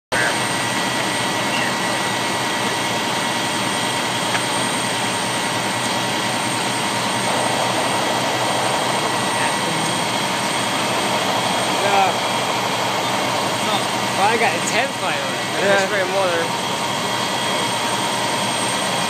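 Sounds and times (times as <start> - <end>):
fire engine running: 0.1 - 19.0.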